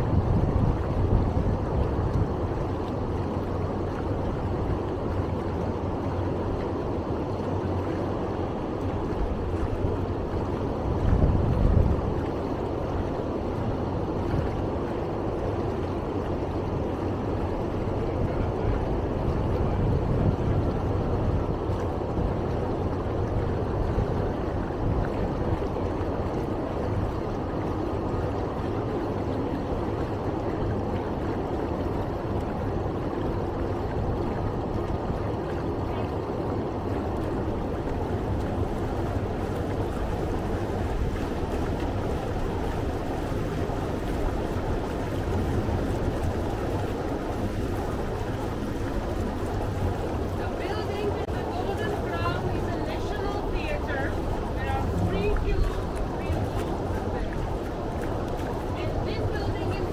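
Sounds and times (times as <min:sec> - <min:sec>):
boat engine running: 0:00.0 - 0:59.9
water washing along hull: 0:00.0 - 0:59.9.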